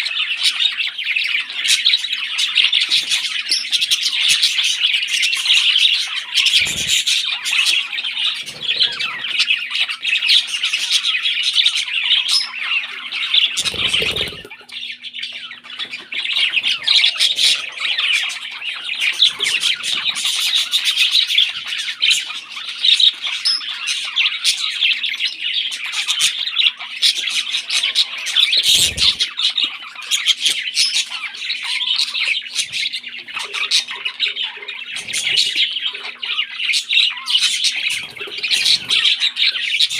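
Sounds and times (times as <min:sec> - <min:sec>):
chicks begging calls: 0:00.0 - 0:39.9
parrots squawking and chattering: 0:00.0 - 0:39.9.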